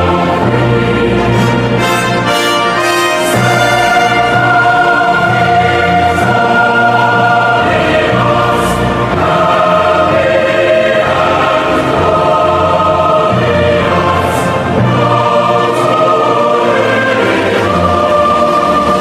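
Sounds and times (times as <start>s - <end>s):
choir singing held chords: 0.0s - 19.0s
orchestral accompaniment: 0.0s - 19.0s.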